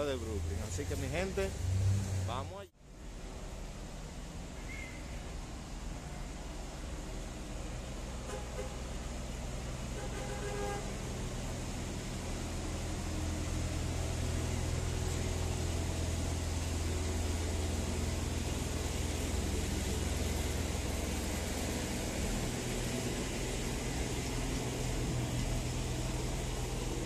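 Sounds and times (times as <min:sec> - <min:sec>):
city street traffic: 0:00.0 - 0:27.0
low engine rumble: 0:00.0 - 0:27.0.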